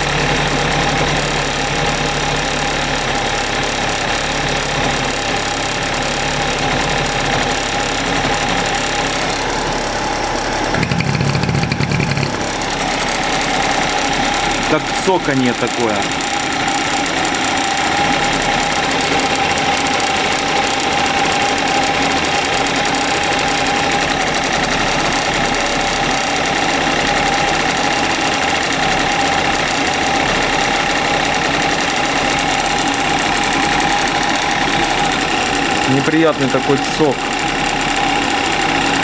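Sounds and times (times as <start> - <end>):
engine ticking: 0.0 - 39.0
scooter engine running: 0.0 - 39.0.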